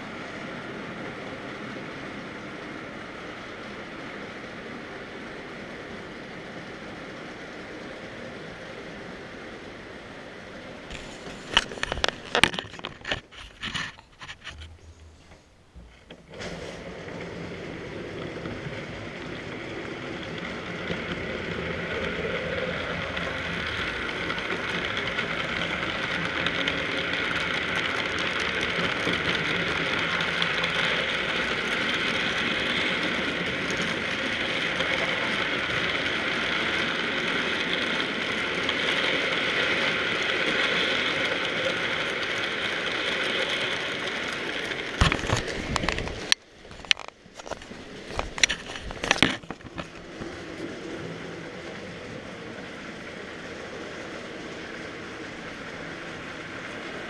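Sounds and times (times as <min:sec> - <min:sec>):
model train wheels rattling: 0:10.9 - 0:57.0.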